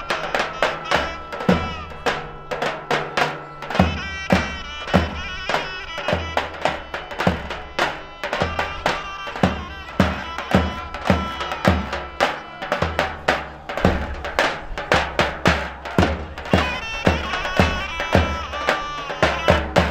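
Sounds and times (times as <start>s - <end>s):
heavy drum beat: 0.0s - 19.9s
reedy wind instrument melody: 0.0s - 19.9s.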